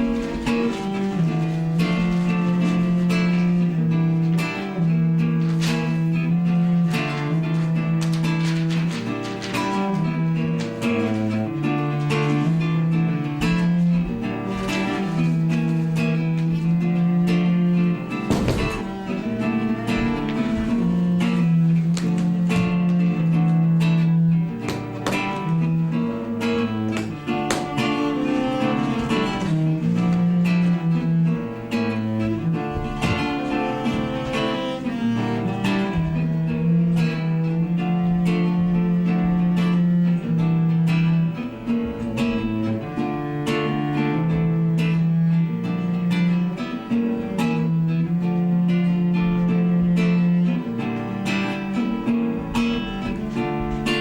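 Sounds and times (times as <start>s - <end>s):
acoustic guitar plucked and strummed: 0.0s - 54.0s.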